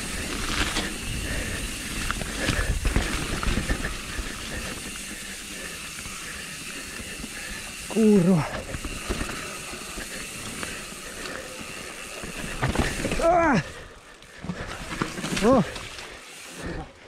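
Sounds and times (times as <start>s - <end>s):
bike rattling over roots: 0.0s - 17.0s
bike tyre hiss and rushing air: 0.0s - 17.0s.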